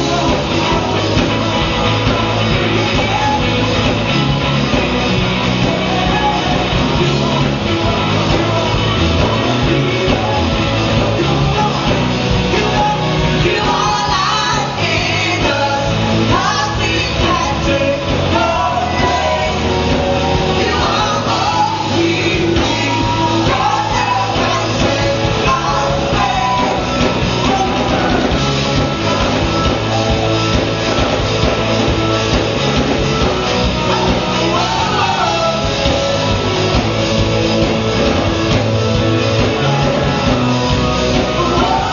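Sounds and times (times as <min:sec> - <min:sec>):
person singing: 0:00.0 - 0:29.9, 0:33.6 - 0:36.4, 0:39.4 - 0:41.9
live rock band playing: 0:00.0 - 0:41.9.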